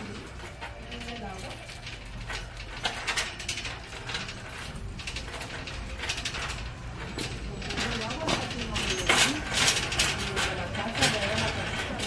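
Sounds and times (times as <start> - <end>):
irregular clicking and rattling: 0.0 - 12.0.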